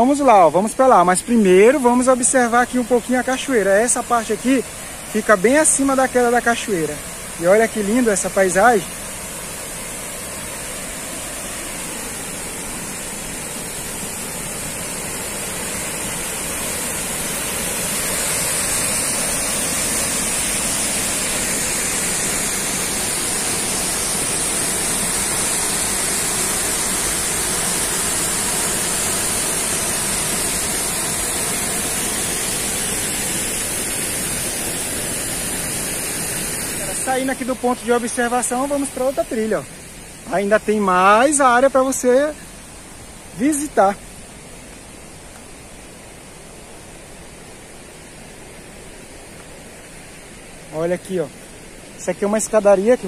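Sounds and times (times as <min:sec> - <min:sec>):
waterfall and rapids roaring: 0:00.0 - 0:53.0.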